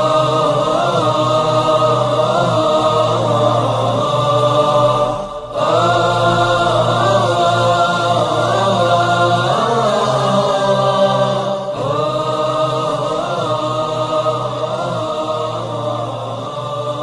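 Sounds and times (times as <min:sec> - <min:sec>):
low drone: 0:00.0 - 0:17.0
wordless choral music: 0:00.0 - 0:17.0.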